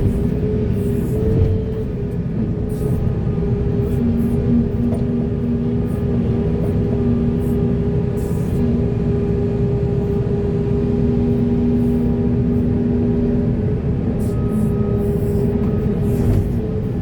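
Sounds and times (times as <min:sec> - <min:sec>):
diesel engine rumble: 0:00.0 - 0:17.0
steady engine whine: 0:00.0 - 0:17.0.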